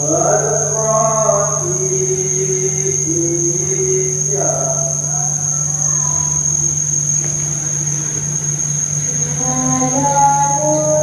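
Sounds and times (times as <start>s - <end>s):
cricket trilling: 0.0s - 11.0s
slow gliding music over drone: 0.0s - 11.0s.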